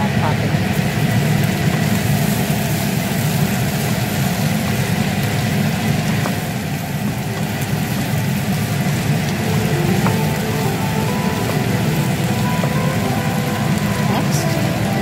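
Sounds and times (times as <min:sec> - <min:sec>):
vegetables frying in a wok: 0:00.0 - 0:15.0.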